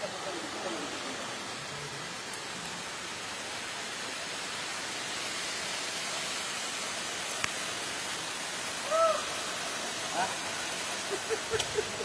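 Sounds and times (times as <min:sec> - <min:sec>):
rushing river water: 0:00.0 - 0:12.0.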